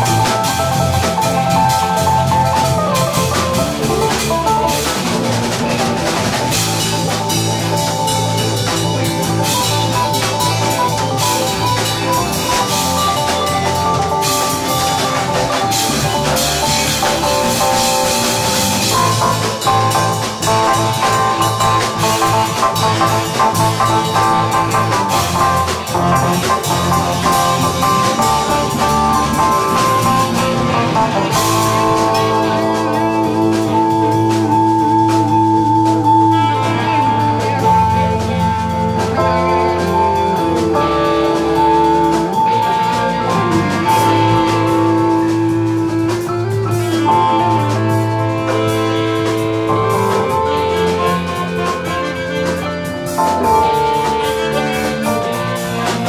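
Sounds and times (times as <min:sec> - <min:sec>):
drum kit beat: 0:00.0 - 0:56.0
guitar: 0:00.0 - 0:56.0
sustained chords: 0:00.0 - 0:56.0.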